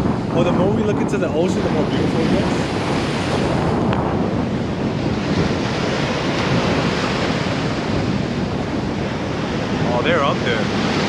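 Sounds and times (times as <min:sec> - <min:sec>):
sea surf washing on beach: 0:00.0 - 0:11.0
wind buffeting microphone: 0:00.0 - 0:11.0.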